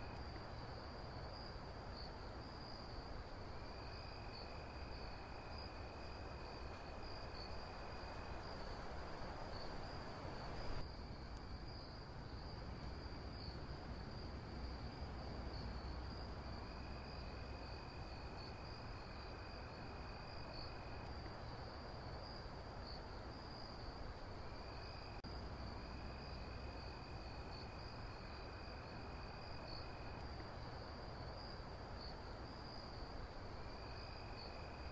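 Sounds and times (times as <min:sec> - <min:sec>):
lower insect trill: 0:00.0 - 0:34.9.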